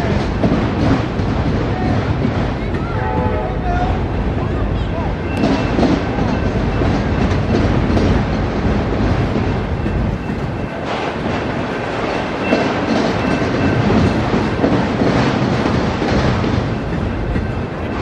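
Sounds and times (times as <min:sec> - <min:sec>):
freight cars rumbling and rattling: 0:00.0 - 0:18.0
wheels clickety-clack on track: 0:00.0 - 0:18.0.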